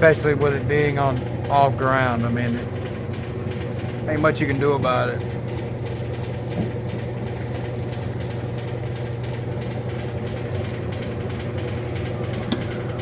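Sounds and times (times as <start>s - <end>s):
washing machine humming and rattling: 0.0s - 13.0s.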